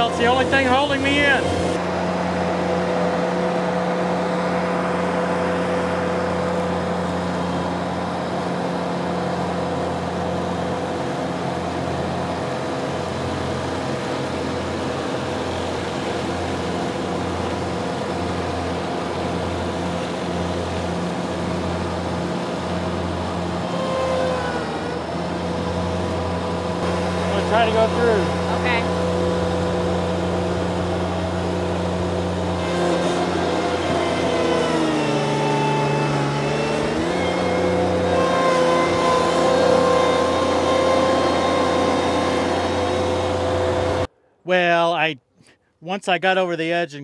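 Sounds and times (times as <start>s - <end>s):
tractor mower running: 0.0s - 44.1s.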